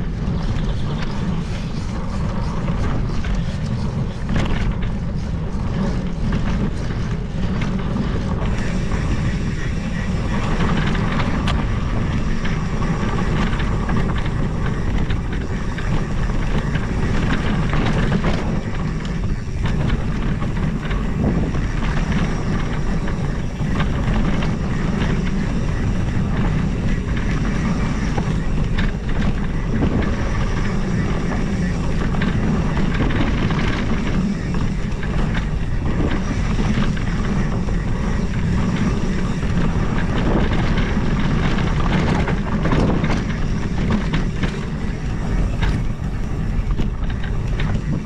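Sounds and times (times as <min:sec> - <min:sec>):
bike clattering over bumps: 0:00.0 - 0:48.0
tyres roaring on dirt: 0:00.0 - 0:48.0
wind buffeting microphone: 0:00.0 - 0:48.0.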